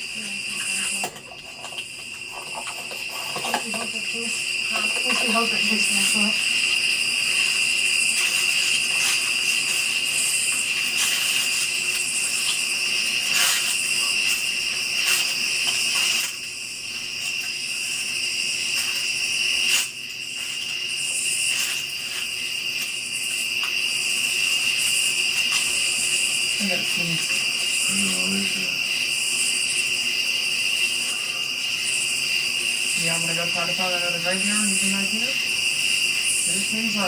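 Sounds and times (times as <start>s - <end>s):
crickets and insects chirping: 0.0s - 37.0s.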